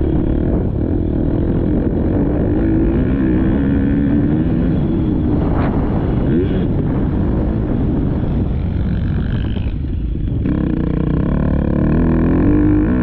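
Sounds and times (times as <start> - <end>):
dirt bike engine: 0.0 - 13.0
wind rush on microphone: 0.0 - 13.0.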